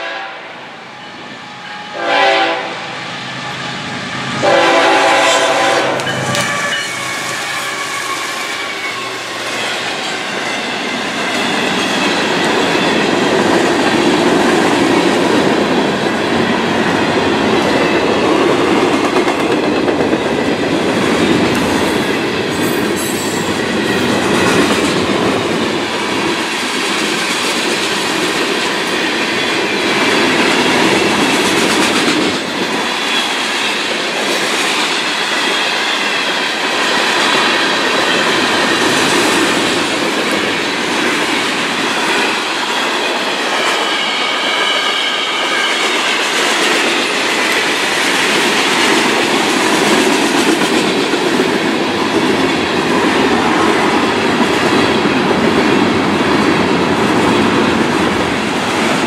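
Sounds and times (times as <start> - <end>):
freight cars rumbling on rail: 1.2 - 59.0.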